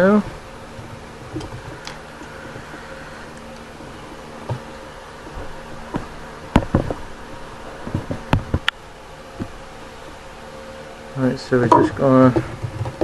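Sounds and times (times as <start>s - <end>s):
electrical buzzing hum: 0.0s - 13.0s.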